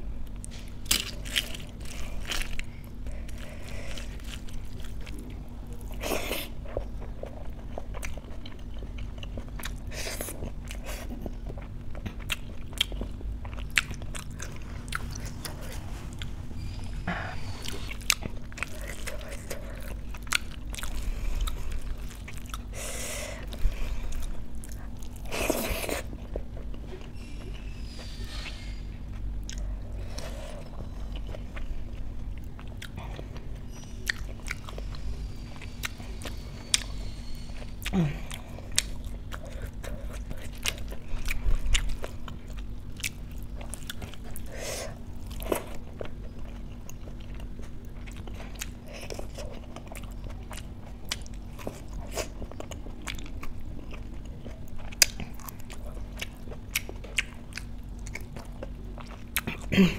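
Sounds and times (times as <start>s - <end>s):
person chewing: 0.2s - 59.9s.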